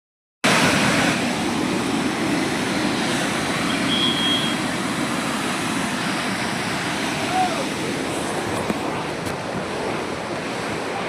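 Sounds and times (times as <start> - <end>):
floodwater rushing: 0.4 - 11.0.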